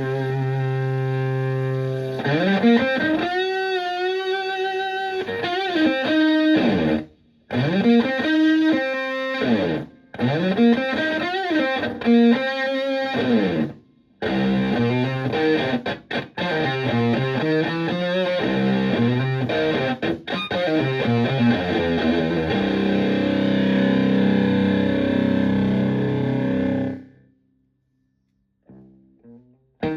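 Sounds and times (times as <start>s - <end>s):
distorted electric guitar lead: 0.0s - 27.2s.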